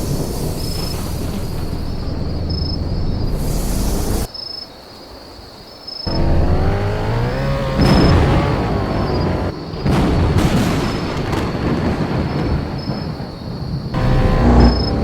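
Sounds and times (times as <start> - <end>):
thunder cracks: 0.0 - 4.3, 6.1 - 15.0
thunder rumbling: 0.0 - 4.3, 6.1 - 15.0.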